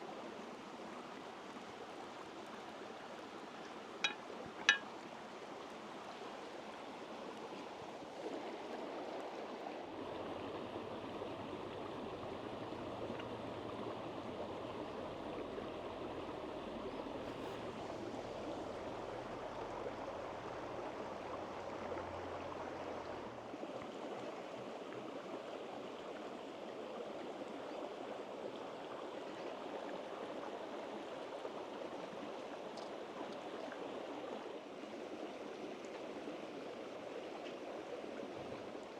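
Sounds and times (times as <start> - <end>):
stream water rushing: 0.1 - 38.9.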